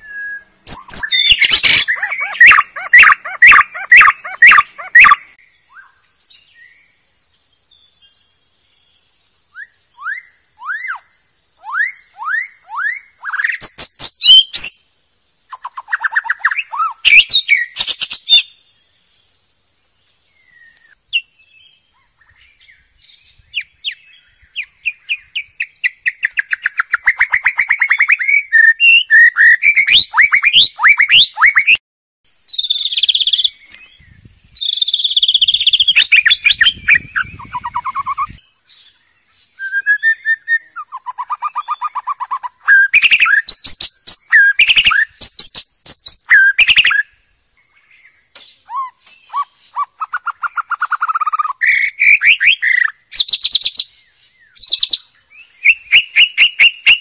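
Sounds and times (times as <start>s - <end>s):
bird singing varied phrases: 0.0s - 57.0s.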